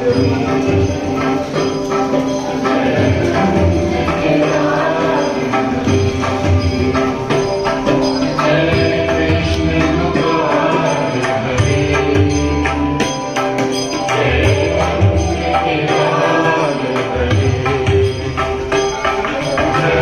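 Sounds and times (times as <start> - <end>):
percussion beat: 0.0 - 20.0
sustained instrumental tones: 0.0 - 20.0
voices chanting: 0.0 - 20.0.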